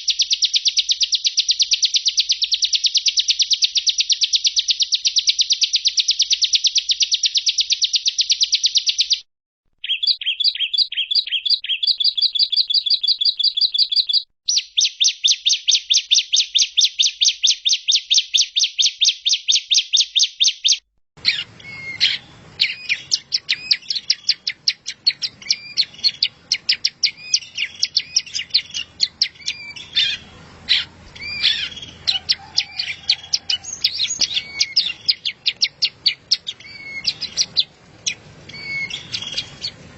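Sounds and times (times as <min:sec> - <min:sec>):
recorded songbird trills: 0:00.0 - 0:39.9
varied bird chirps: 0:00.0 - 0:39.9.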